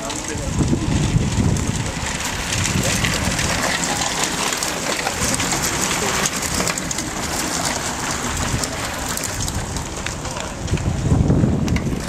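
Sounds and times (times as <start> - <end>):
bicycles rattling over cobblestones: 0.0 - 12.0.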